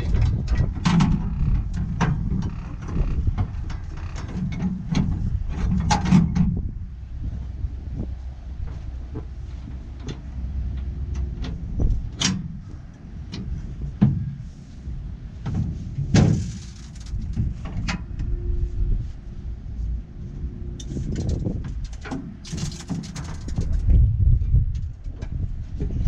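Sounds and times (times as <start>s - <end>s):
knocks and clatter of work: 0.0s - 6.8s, 8.0s - 18.3s, 20.8s - 26.0s
wind buffeting microphone: 0.0s - 26.0s.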